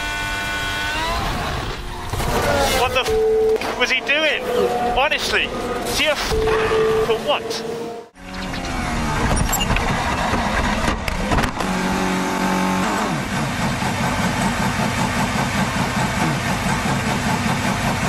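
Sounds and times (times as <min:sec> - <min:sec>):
race car engine at speed: 0:00.0 - 0:18.0.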